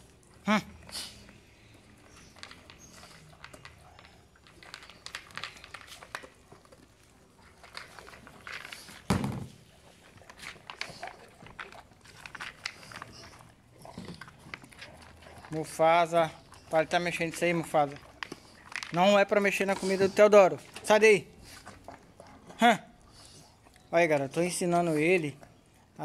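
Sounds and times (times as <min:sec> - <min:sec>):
puppies crunching kibble: 0:00.0 - 0:26.0.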